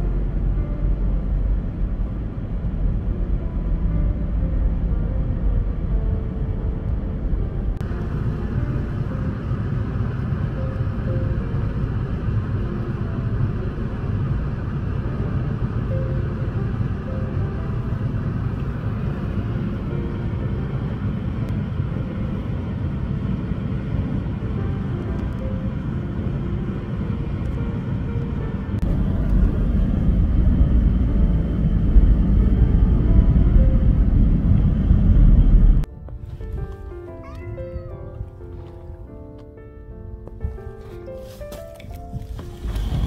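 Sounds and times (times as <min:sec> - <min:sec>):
engine and tyre rumble: 0:00.0 - 0:37.2, 0:37.9 - 0:43.0
soft background music: 0:00.0 - 0:43.0.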